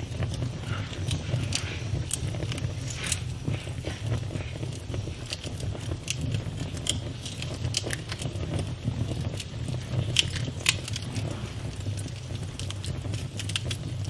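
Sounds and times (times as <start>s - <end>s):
burning wood popping and crackling: 0.0s - 14.0s
campfire flames rumbling: 0.0s - 14.0s.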